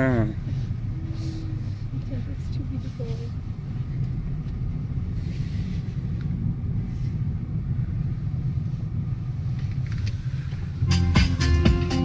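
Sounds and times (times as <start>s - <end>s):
car interior engine and tyre rumble: 0.0s - 12.0s.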